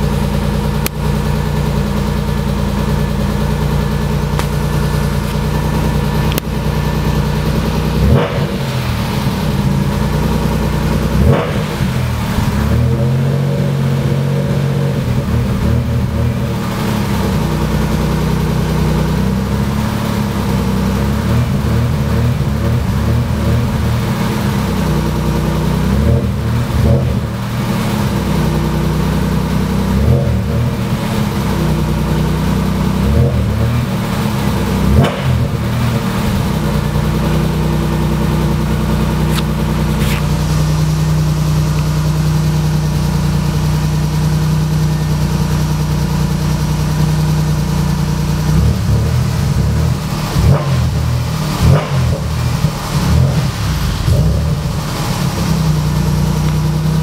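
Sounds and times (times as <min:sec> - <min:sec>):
car engine idling: 0:00.0 - 0:57.0
engine throttle blips: 0:00.0 - 0:57.0.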